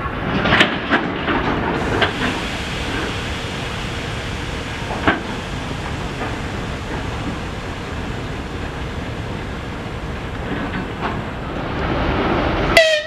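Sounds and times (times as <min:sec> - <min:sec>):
train hissing: 0:01.6 - 0:13.0.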